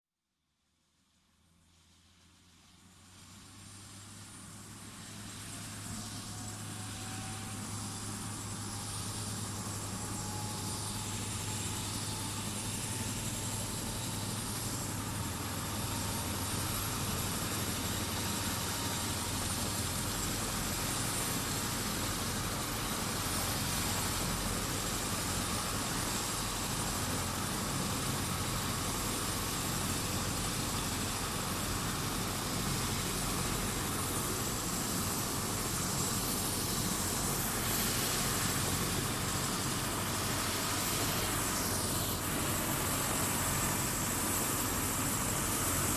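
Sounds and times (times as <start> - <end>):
hiss: 3.1 - 45.9
helicopter running: 3.2 - 45.9.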